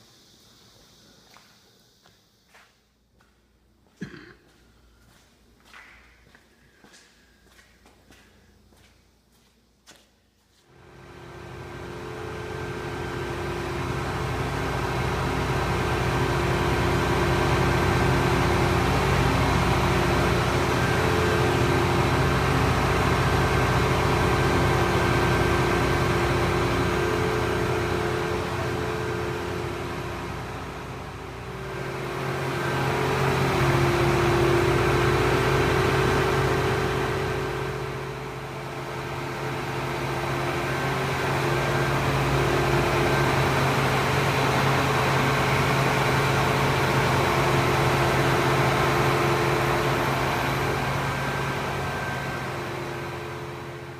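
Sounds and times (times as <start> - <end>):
farm machine engine droning: 10.7 - 53.9.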